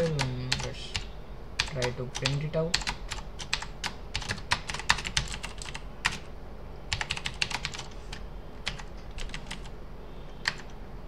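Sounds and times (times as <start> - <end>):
keyboard typing clicks: 0.0 - 6.2, 6.9 - 9.7, 10.3 - 10.8.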